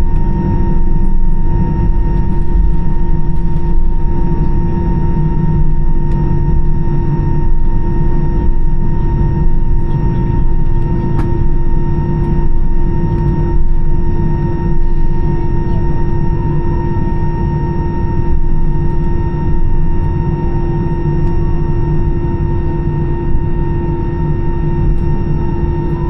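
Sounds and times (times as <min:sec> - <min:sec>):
constant engine whine: 0:00.0 - 0:26.0
jet engines idling rumble: 0:00.0 - 0:26.0.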